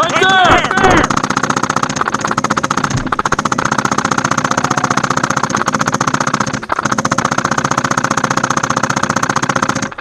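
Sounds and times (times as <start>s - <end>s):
airsoft machine gun firing: 0.0s - 10.0s.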